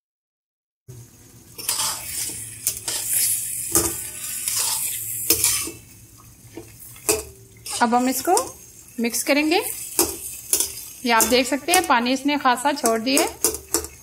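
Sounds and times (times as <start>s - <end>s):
light sizzle: 0.9s - 14.0s
metal spatula scraping pan: 1.6s - 5.9s, 6.5s - 14.0s.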